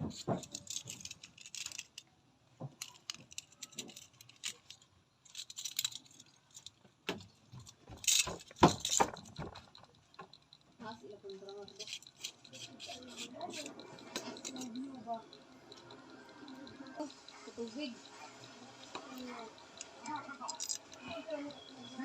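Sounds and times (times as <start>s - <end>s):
small metal objects jingling: 0.0s - 2.1s, 2.8s - 15.8s, 18.9s - 22.0s.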